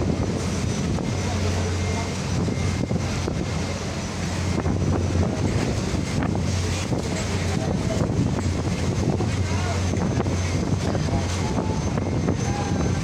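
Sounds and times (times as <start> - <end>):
ship engines droning: 0.0 - 13.0
wind buffeting microphone: 0.0 - 13.0.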